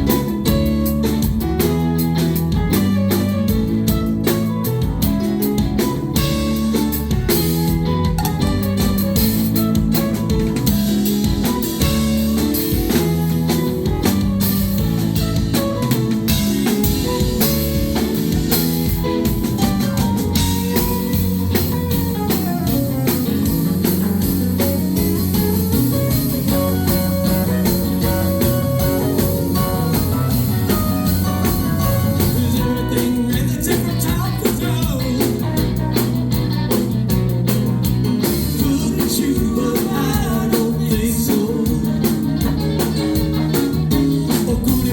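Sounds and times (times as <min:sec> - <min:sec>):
drum kit beat: 0:00.0 - 0:44.9
guitar: 0:00.0 - 0:44.9
live rock band playing: 0:00.0 - 0:44.9.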